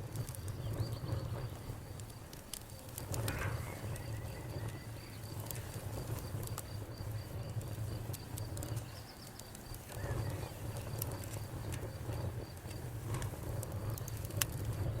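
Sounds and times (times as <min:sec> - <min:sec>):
campfire crackling and popping: 0:00.0 - 0:15.0
faint insect chirping: 0:00.1 - 0:12.9.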